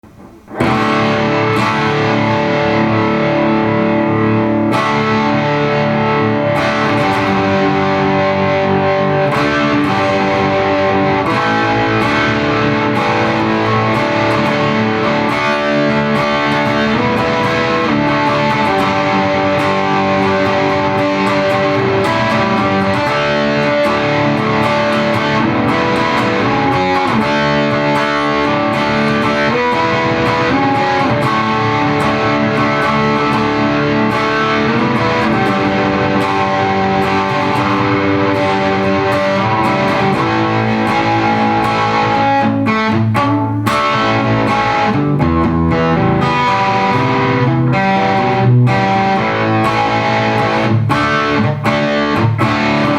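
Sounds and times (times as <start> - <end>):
distorted electric guitar: 0.0 - 52.9.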